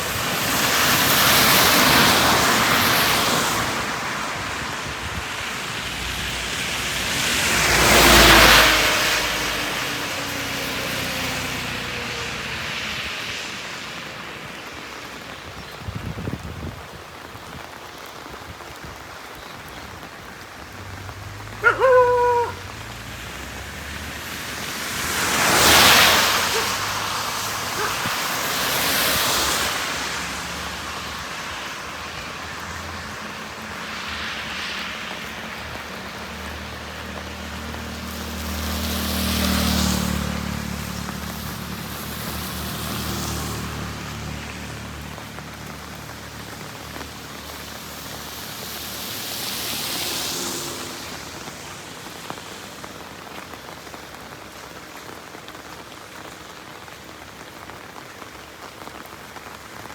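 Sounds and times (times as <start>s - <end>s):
heavy rain: 0.0s - 59.9s
tyres hissing on wet road: 0.0s - 59.9s.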